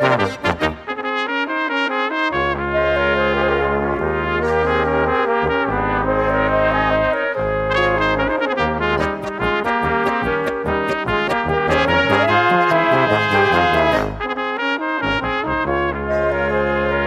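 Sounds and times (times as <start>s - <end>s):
brass music: 0.0s - 17.0s.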